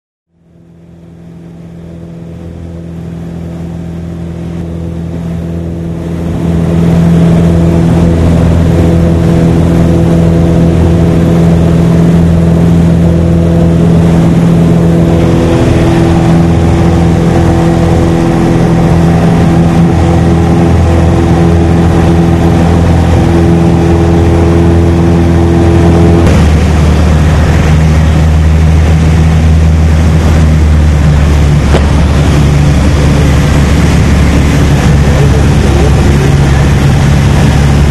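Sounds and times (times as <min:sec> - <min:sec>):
light aircraft engine drone: 0:00.3 - 0:37.9.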